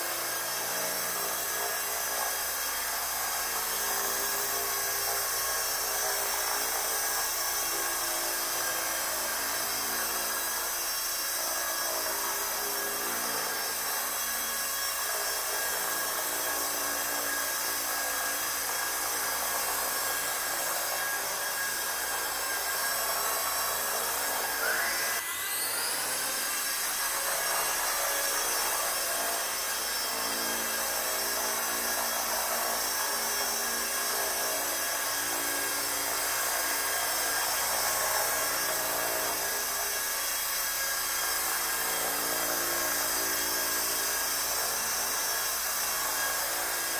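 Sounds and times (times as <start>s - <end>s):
electric motor whining: 0.2s - 46.9s.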